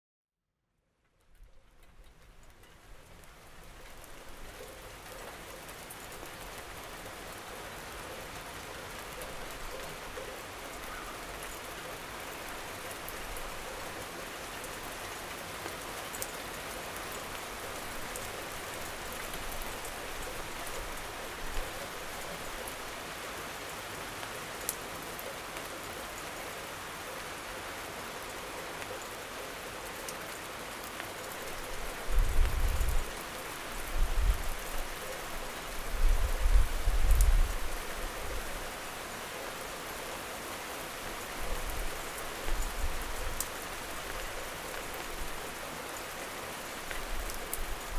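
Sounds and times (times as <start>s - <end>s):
rain on hard surfaces: 1.0s - 47.9s.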